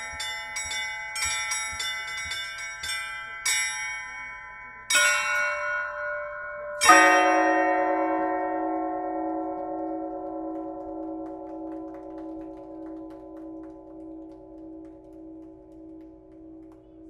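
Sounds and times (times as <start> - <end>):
church bell ringing: 0.0 - 17.0.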